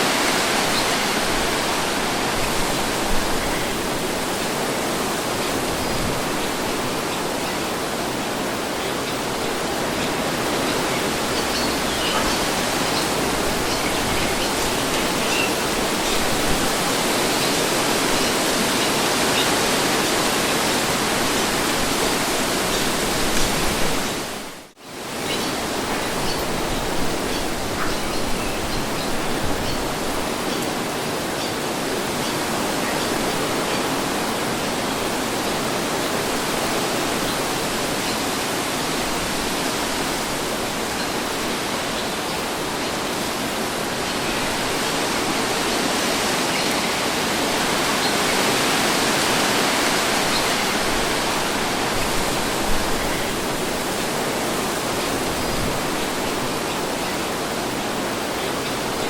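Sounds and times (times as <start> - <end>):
wind blowing: 0.0 - 59.0.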